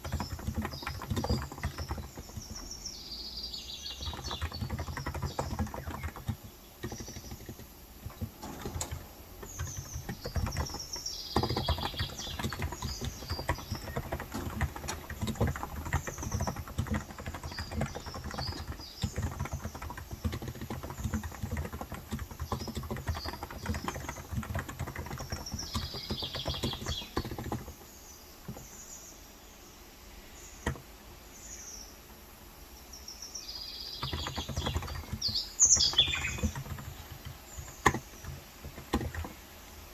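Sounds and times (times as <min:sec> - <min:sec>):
fast keyboard typing: 0:00.0 - 0:28.8, 0:33.9 - 0:39.9
birds chirping: 0:00.0 - 0:39.9.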